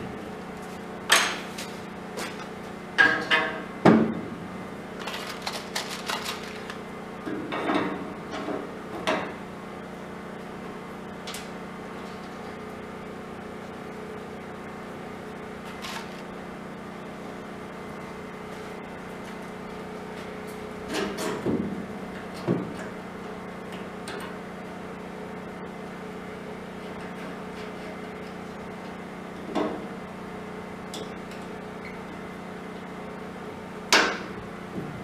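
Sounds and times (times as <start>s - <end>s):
low workshop hum: 0.0s - 35.0s.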